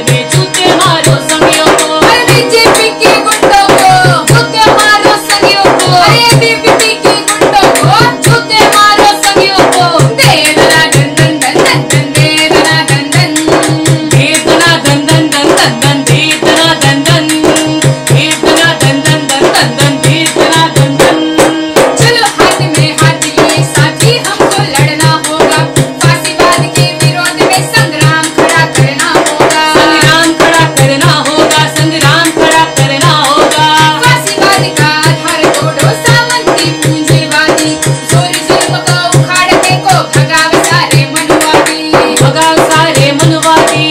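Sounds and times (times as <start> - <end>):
hand drum beat: 0.0 - 43.9
harmonium chords: 0.0 - 43.9
women singing: 0.0 - 43.9.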